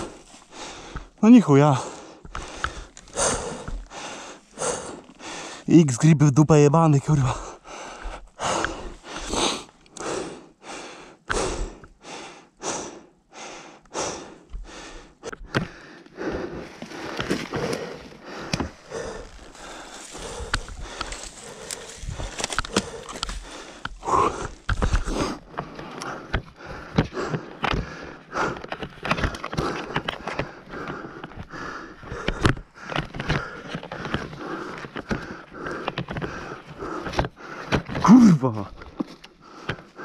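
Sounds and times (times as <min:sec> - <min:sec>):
person breathing hard: 0:00.0 - 0:05.7, 0:07.1 - 0:40.0.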